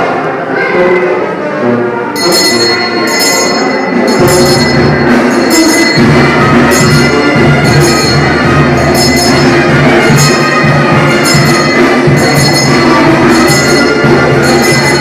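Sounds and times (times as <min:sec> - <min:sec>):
bells jingling: 0:02.2 - 0:15.0.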